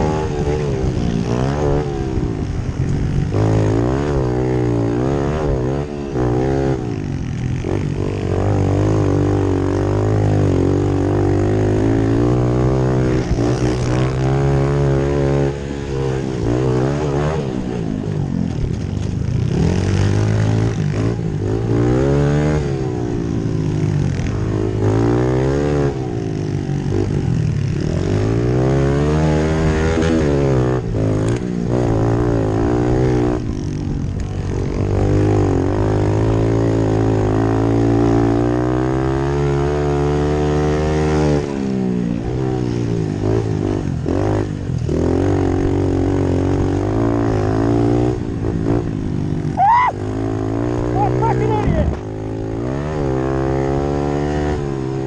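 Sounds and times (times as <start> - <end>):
pit bike engines running hard: 0.0 - 55.0.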